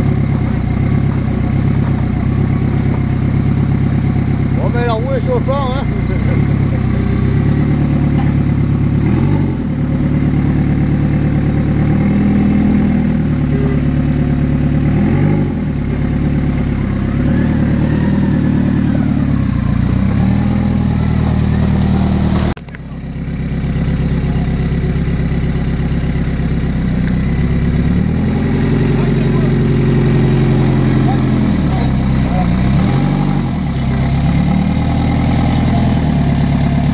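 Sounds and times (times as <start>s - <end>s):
buggy engine revving: 0.0s - 36.9s.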